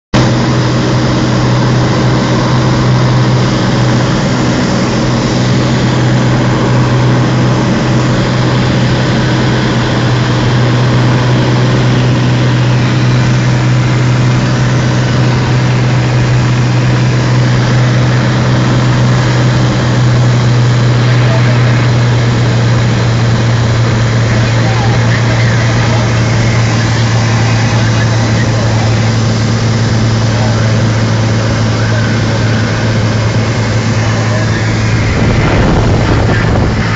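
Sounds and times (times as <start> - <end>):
propeller aircraft engine drone: 0.2 - 36.9.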